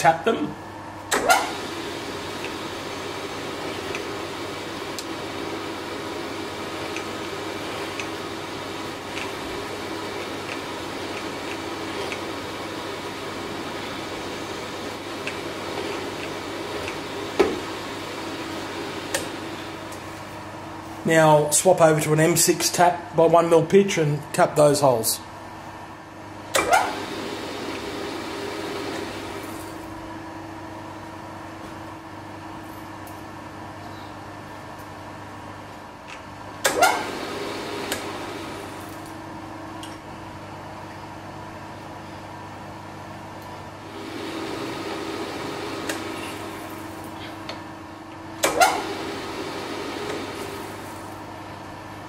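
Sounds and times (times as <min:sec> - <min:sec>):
milling machine humming: 0:00.0 - 0:52.0.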